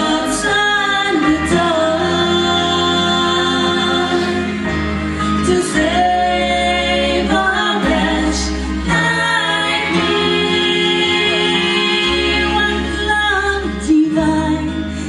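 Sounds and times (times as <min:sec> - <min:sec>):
vocal group singing held notes: 0:00.0 - 0:13.3
music accompaniment with bass line: 0:00.0 - 0:15.0.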